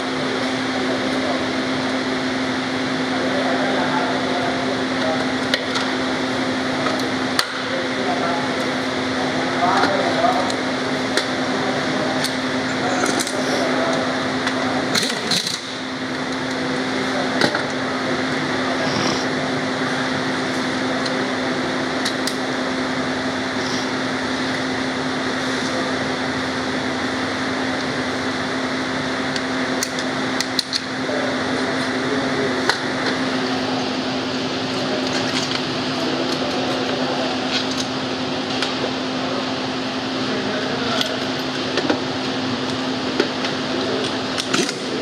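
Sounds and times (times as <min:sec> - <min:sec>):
electric machine hum: 0:00.0 - 0:45.0.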